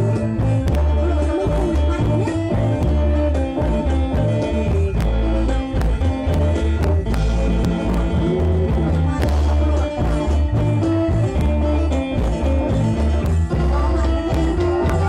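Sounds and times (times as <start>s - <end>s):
heavy bass line: 0.0s - 15.0s
mouth organs playing chords: 0.0s - 15.0s
percussion strokes: 0.0s - 15.0s.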